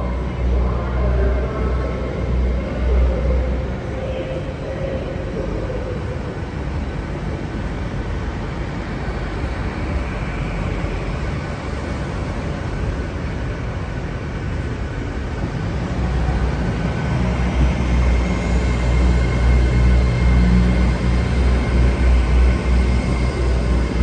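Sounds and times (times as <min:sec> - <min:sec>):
train rumbling slowly: 0:00.0 - 0:24.0.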